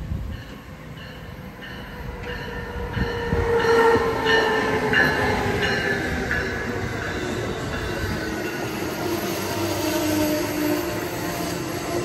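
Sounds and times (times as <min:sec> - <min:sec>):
locomotive whine: 0:00.0 - 0:12.0
train passing at speed: 0:00.0 - 0:12.0.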